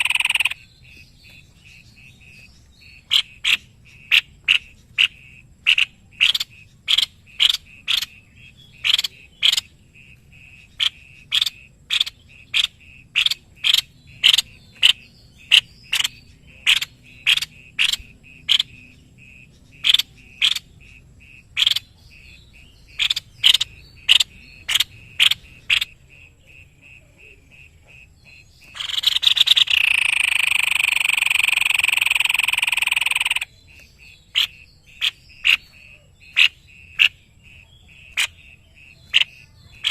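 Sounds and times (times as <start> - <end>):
bird sharp repeated notes: 0.0 - 39.9.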